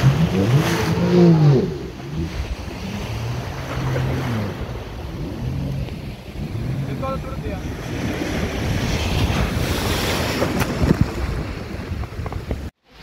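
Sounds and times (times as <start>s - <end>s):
jet ski engine revving: 0.0s - 10.9s
wind buffeting microphone: 0.0s - 12.8s
waves washing: 0.0s - 13.0s.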